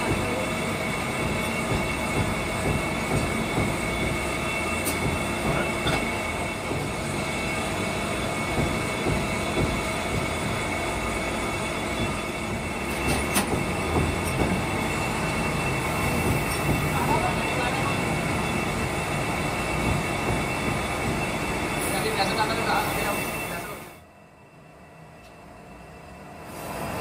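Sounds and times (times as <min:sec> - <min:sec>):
high machine whine: 0:00.0 - 0:25.8
factory machinery running: 0:00.0 - 0:27.0.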